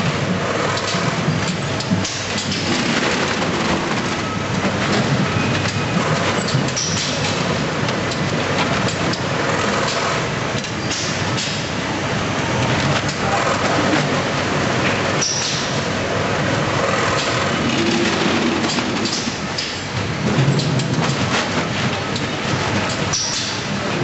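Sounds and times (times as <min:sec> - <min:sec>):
bagging machine clatter: 0:00.0 - 0:24.0.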